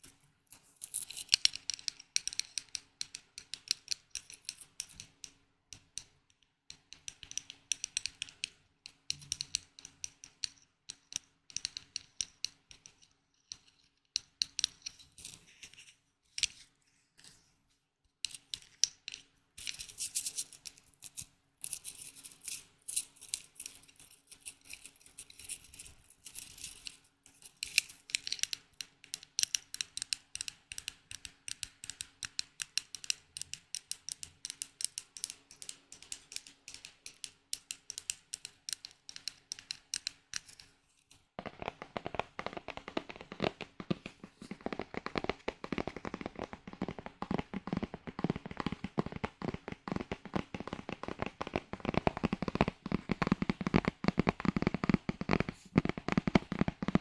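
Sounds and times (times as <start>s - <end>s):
light tapping on small objects: 0.0s - 17.4s, 18.2s - 57.0s.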